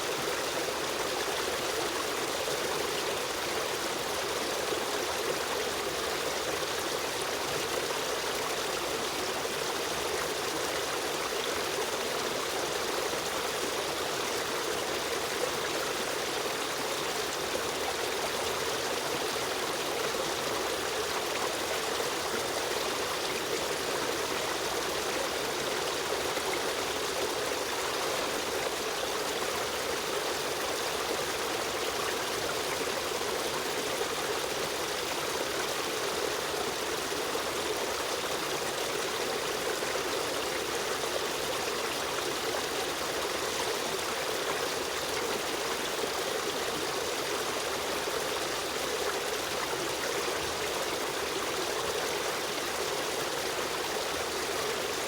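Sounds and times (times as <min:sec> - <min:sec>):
stream of running water: 0:00.0 - 0:55.0.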